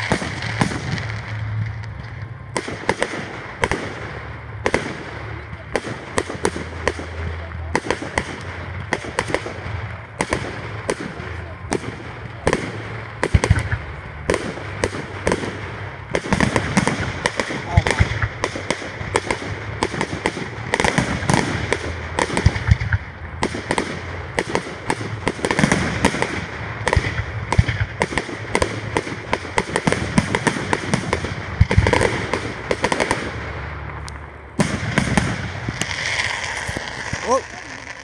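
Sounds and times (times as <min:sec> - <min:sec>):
fireworks bangs and crackle: 0:00.0 - 0:38.0.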